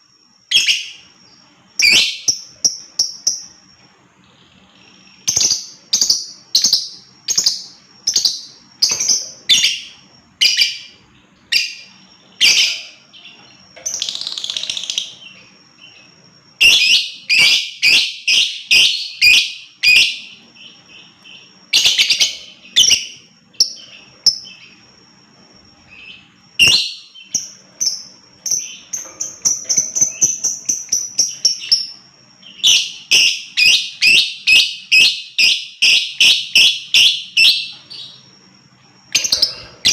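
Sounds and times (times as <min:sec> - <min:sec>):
lovebird chirping: 0:00.2 - 0:39.9.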